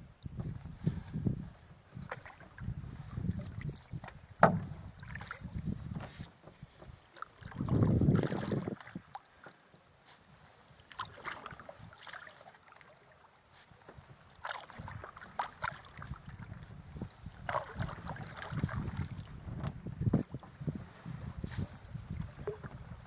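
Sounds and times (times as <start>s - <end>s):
paddle splashing in water: 1.9s - 9.6s, 10.2s - 23.0s.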